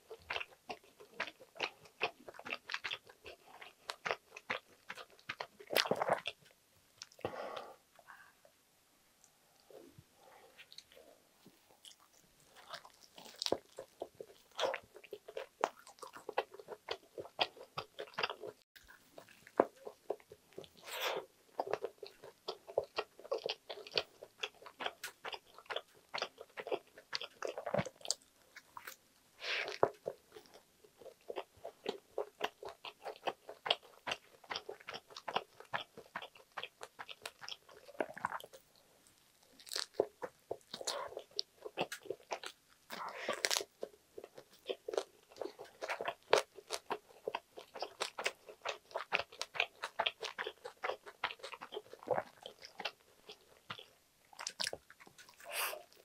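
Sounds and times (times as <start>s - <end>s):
chewing toasted sandwich: 0.0s - 7.4s, 10.6s - 56.0s.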